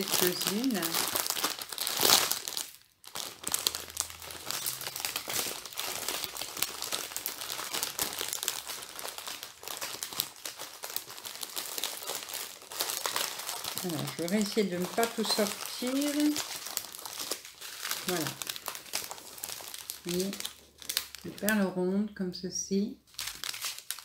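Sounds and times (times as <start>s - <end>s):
plastic bags crinkling: 0.0s - 21.8s, 23.1s - 24.0s.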